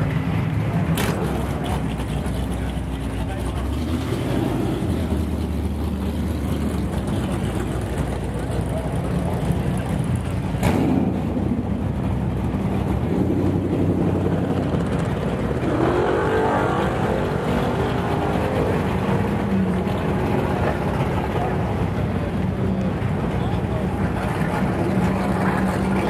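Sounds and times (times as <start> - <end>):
car engines rumbling: 0.0 - 26.0.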